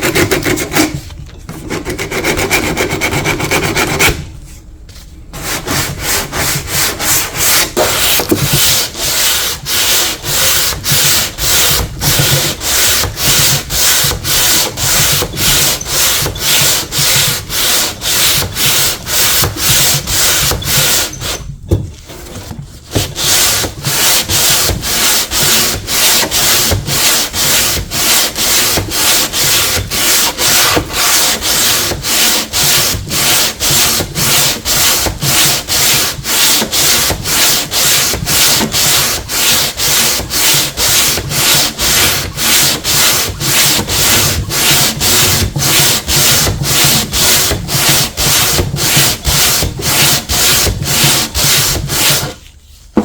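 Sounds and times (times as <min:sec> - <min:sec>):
sandpaper rubbing on wood: 0:05.4 - 0:21.4, 0:22.9 - 0:52.8.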